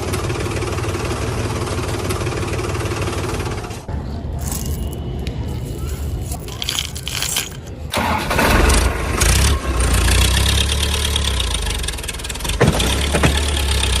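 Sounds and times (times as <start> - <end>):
tractor engine running: 0.0 - 5.0, 5.7 - 14.0.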